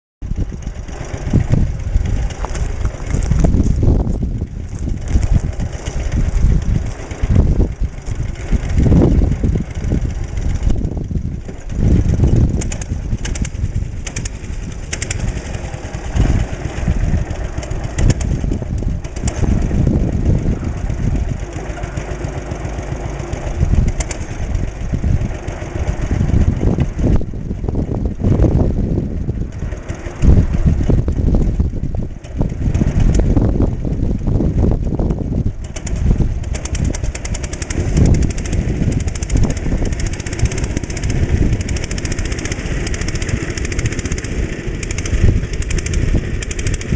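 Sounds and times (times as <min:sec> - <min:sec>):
small tractor engine running: 0:00.2 - 0:46.9.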